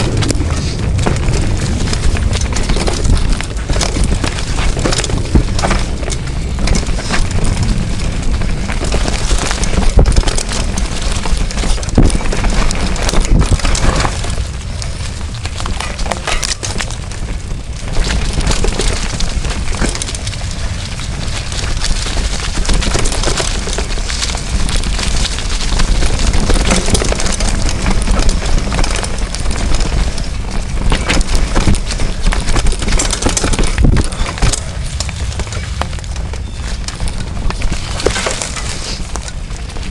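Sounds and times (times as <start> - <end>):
bike frame rattling and knocking: 0.0 - 39.9
wind buffeting microphone: 0.0 - 39.9.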